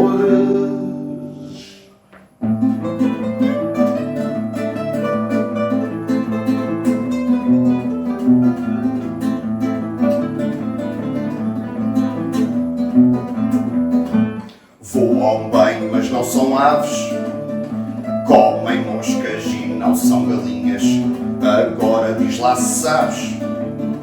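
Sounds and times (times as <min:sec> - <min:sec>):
acoustic guitar strummed and plucked: 0:00.0 - 0:01.7, 0:02.4 - 0:24.0.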